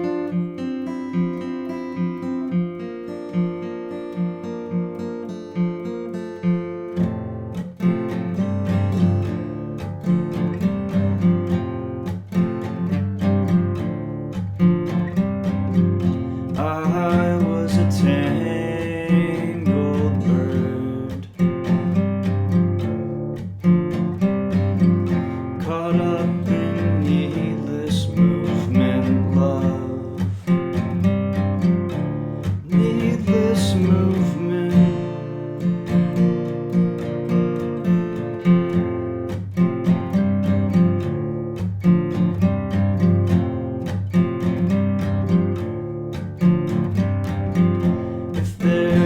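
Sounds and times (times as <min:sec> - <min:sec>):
strummed acoustic guitar: 0:00.0 - 0:49.0.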